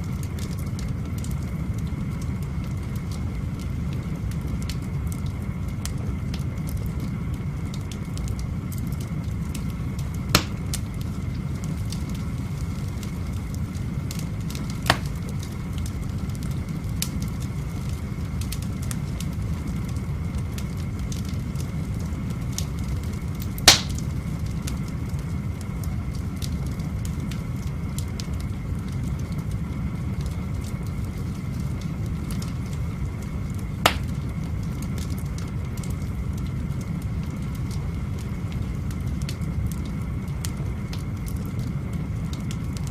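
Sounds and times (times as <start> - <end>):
burning wood popping: 0.0 - 42.9
wood fire crackling: 0.0 - 42.9.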